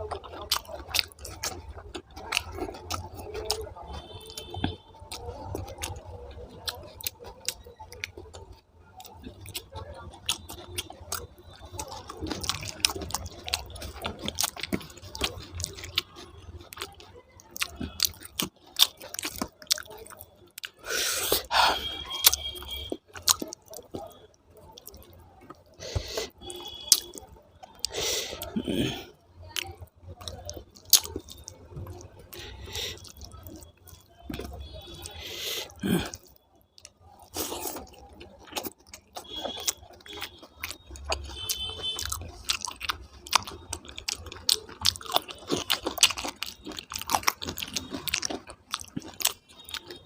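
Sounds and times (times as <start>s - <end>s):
person chewing food: 0.0s - 50.0s.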